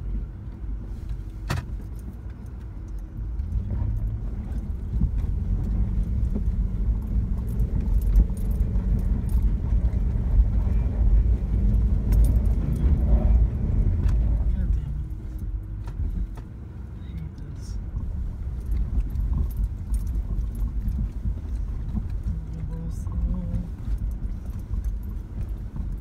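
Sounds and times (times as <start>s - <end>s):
engine and drivetrain rumble: 0.0s - 26.0s.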